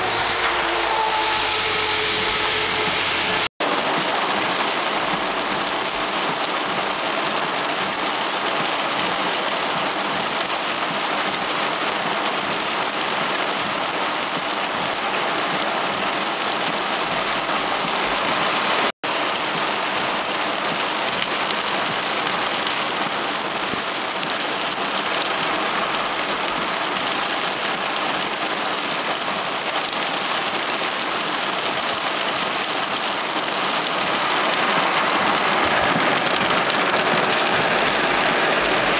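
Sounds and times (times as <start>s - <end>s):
heavy rain hissing on car: 0.0s - 38.9s.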